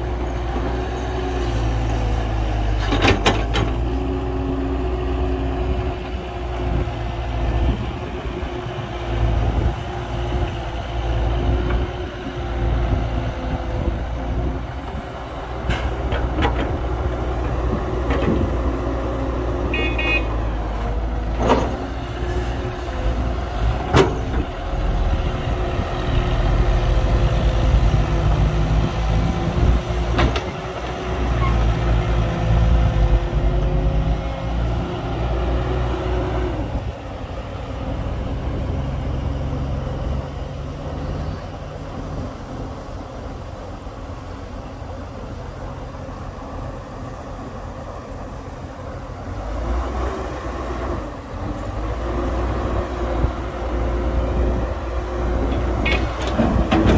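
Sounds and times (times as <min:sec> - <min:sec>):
heavy diesel machinery rumbling: 0:00.0 - 0:56.9.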